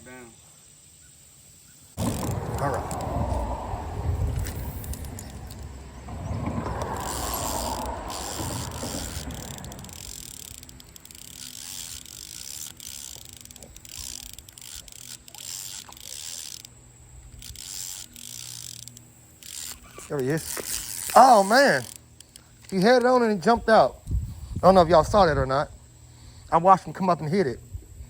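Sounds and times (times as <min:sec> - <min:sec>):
fishing reel whirring: 0:02.0 - 0:25.4.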